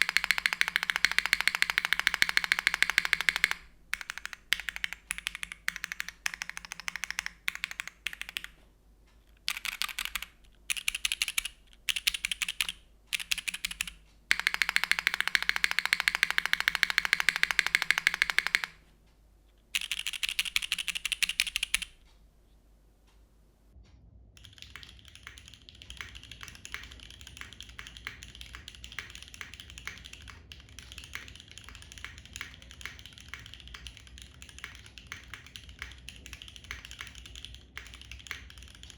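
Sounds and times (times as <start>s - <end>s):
mechanical keyboard typing: 0.0s - 8.6s, 9.3s - 18.8s, 19.7s - 22.0s, 24.4s - 38.9s
low hum and hiss: 0.0s - 38.9s.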